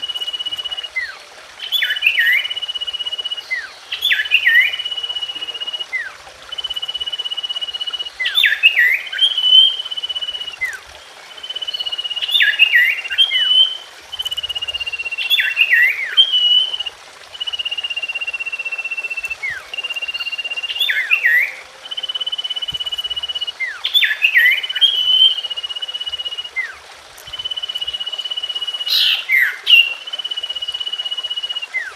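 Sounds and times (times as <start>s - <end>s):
bird song whistle and sliding notes: 0.0s - 31.9s.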